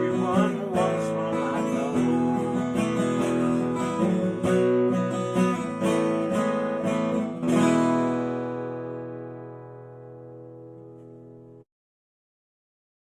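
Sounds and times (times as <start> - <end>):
acoustic guitar strumming: 0.0 - 11.6.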